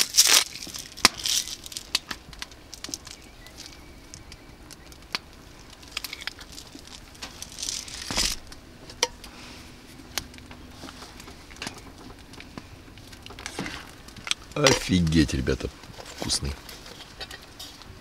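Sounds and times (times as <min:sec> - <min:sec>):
wood stove crackling: 0:00.0 - 0:18.0.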